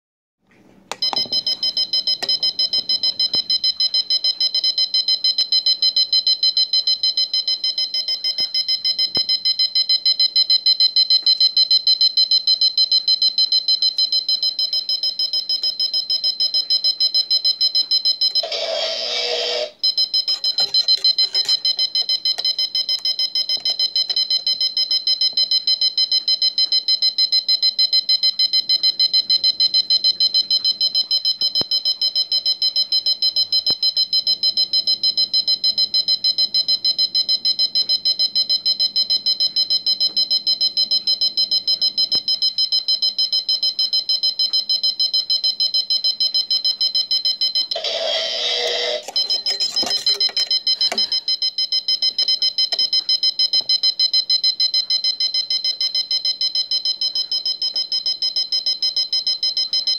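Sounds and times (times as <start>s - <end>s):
alarm clock beeping: 0.9s - 59.9s.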